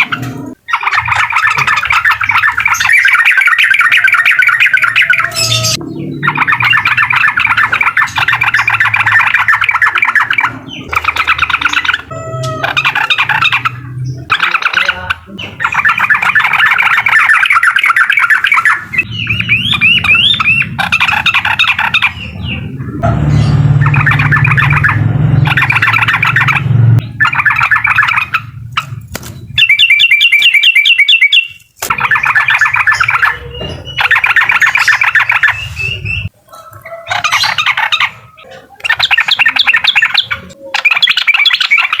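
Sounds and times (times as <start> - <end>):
bulbul singing chattering song: 0.0 - 42.0.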